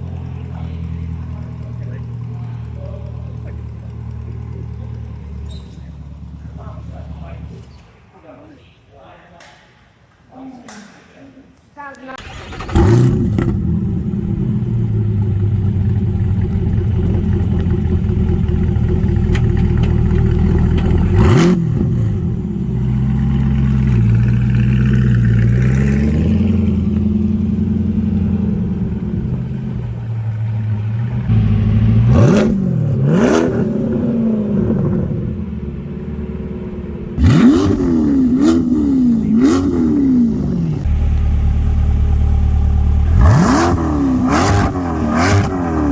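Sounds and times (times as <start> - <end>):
engine free rev blips: 0.0 - 8.1, 12.2 - 45.9
car engine idling: 0.0 - 8.6, 12.2 - 45.9.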